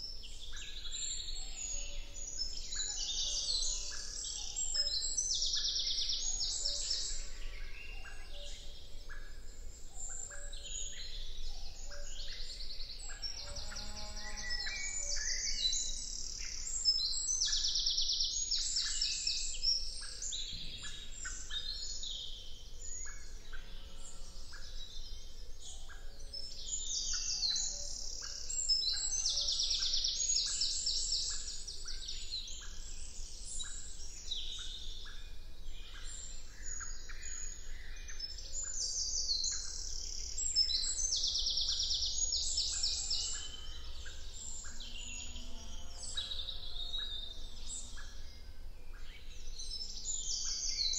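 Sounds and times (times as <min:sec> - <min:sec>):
songbirds chorus: 0:00.0 - 0:50.9.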